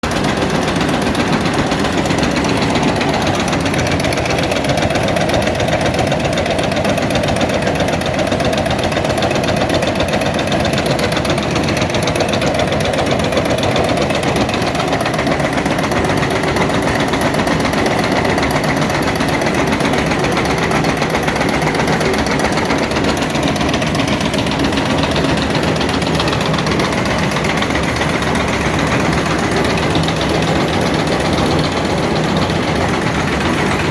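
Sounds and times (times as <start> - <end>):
shredding machine clattering: 0.0 - 33.9.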